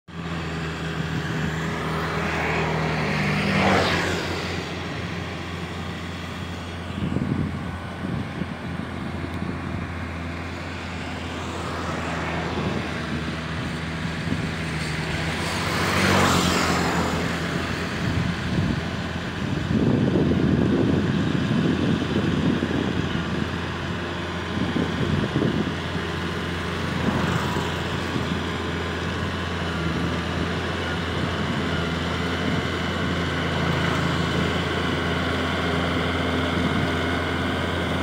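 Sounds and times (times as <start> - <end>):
tractor engine running: 0.1 - 38.0.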